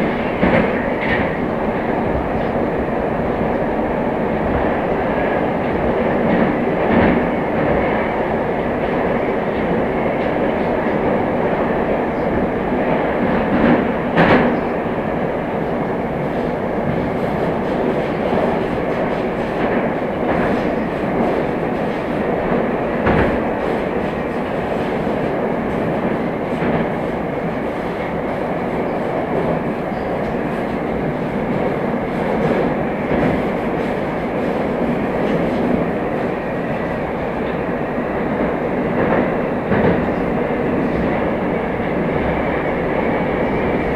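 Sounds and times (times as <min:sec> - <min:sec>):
train wheels rumbling: 0:00.0 - 0:43.9.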